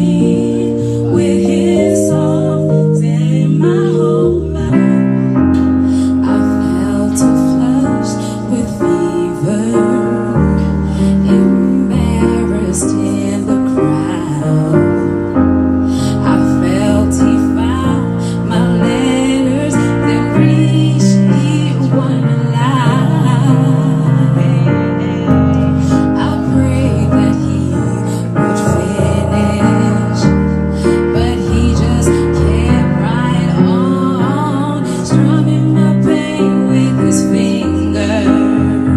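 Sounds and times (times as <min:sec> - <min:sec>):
electric keyboard chords: 0:00.0 - 0:38.9
woman singing: 0:00.0 - 0:38.9.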